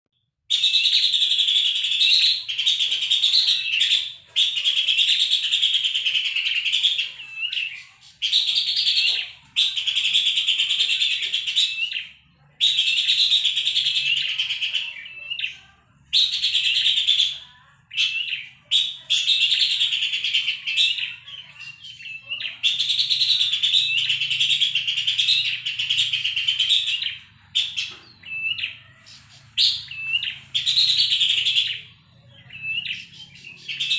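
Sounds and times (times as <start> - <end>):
bird chattering calls: 0.5 - 33.9.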